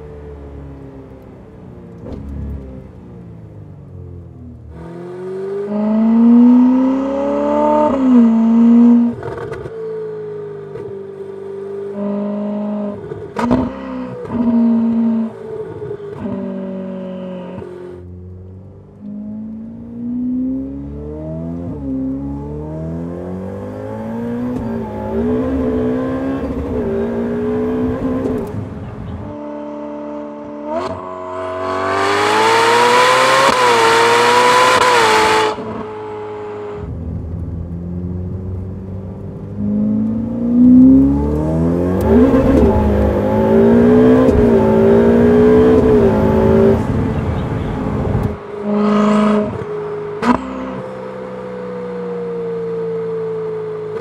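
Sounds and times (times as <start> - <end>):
sports car engine accelerating: 0.0 - 54.0.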